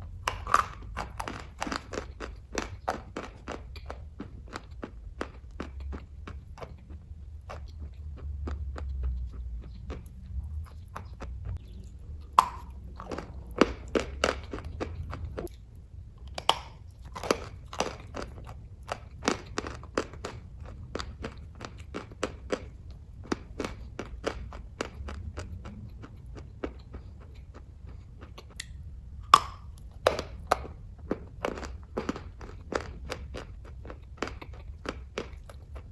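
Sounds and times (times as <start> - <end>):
chewing mouth clicks and smacks: 0.0 - 35.9
low steady hum: 0.0 - 35.9.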